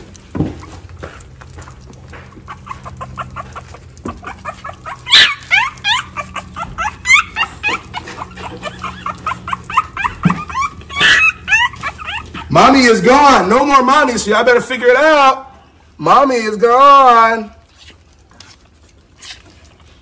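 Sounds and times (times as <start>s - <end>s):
puppies crying: 0.0s - 20.0s.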